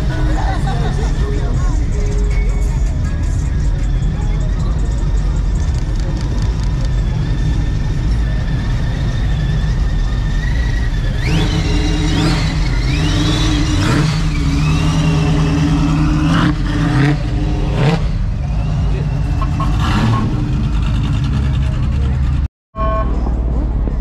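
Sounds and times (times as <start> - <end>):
car engine revving: 2.8 - 22.5.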